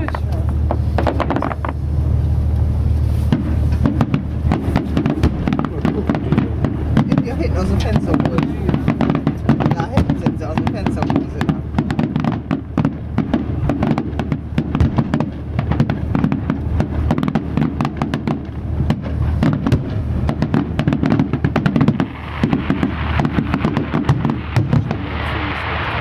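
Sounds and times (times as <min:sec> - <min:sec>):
fireworks bangs and crackles: 0:00.0 - 0:26.0
steady low rumble: 0:00.0 - 0:26.0.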